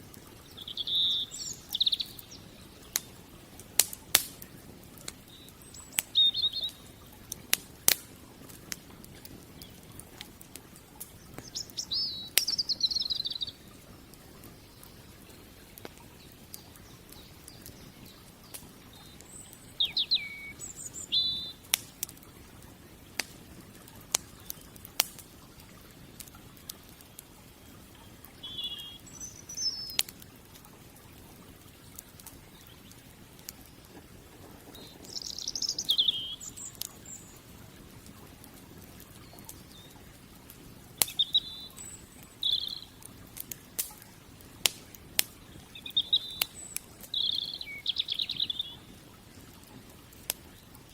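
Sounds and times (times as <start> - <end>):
campfire crackling: 0.0 - 50.9
songbirds chirping: 0.0 - 50.9.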